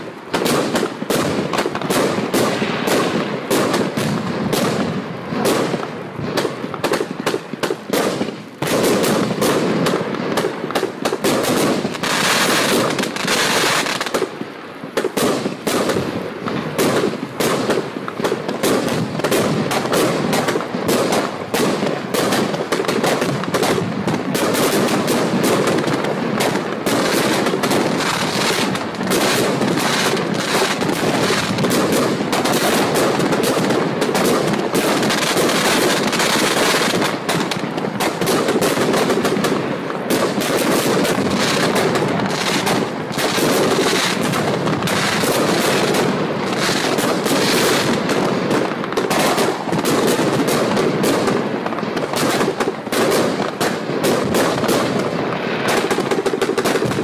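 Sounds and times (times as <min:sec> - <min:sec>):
firework barrage firing: 0:00.0 - 0:57.0.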